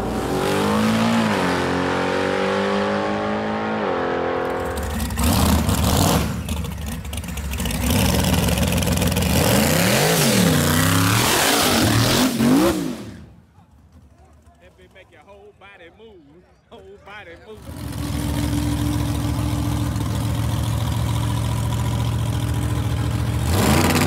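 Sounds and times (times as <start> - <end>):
car engine revving: 0.0 - 13.3, 17.6 - 24.0
drag car engine: 0.0 - 15.3, 17.3 - 24.0.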